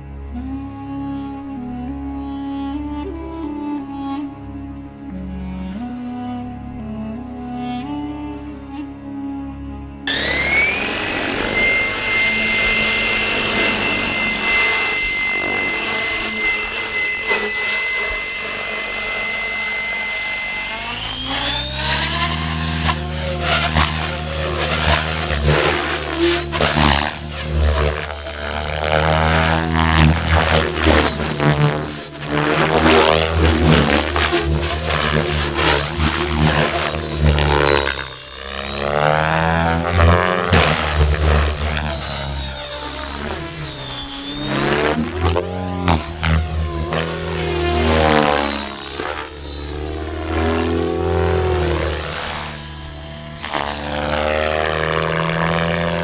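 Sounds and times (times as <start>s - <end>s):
rc helicopter high whine: 10.0s - 56.0s
rotor blade noise: 10.0s - 56.0s.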